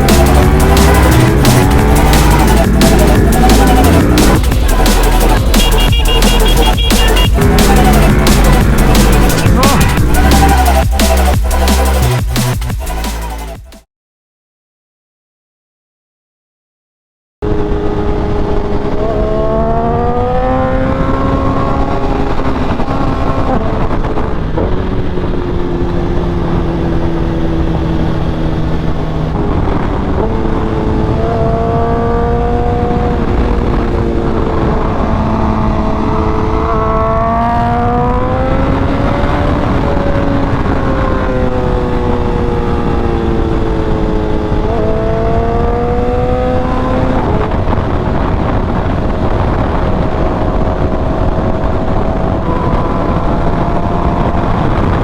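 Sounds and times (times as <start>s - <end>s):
motorcycle engine revving through gears: 0.0s - 12.8s, 17.4s - 55.0s.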